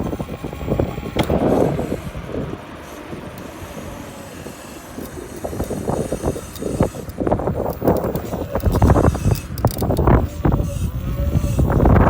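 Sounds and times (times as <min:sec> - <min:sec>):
bicycle road rumble: 0:00.0 - 0:12.0
wind buffeting microphone: 0:00.0 - 0:12.0.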